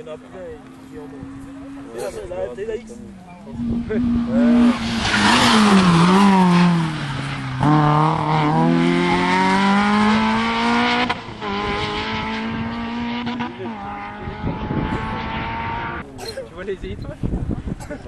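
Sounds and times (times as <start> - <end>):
rally car engine passing: 0.0 - 16.1.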